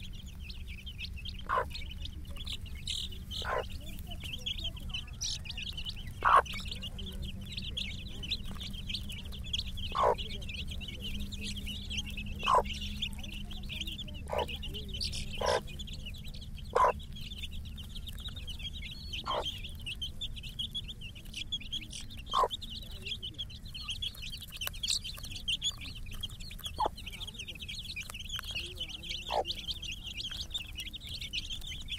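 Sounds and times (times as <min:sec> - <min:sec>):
chicks peeping: 0:00.0 - 0:31.9
hen clucking: 0:00.0 - 0:31.9.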